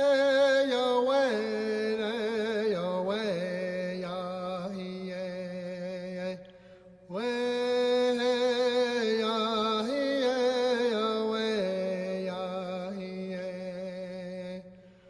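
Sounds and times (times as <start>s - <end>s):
person chanting wordlessly: 0.0s - 6.4s, 7.1s - 14.7s.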